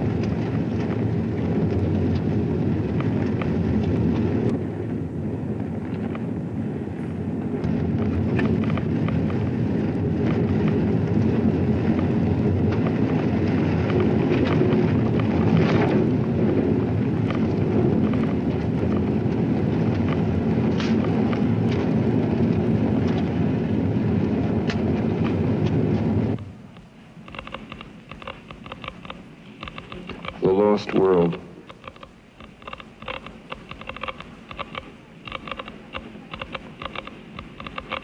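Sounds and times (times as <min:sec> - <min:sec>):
faint crackles: 0:00.0 - 0:04.6, 0:05.5 - 0:38.0.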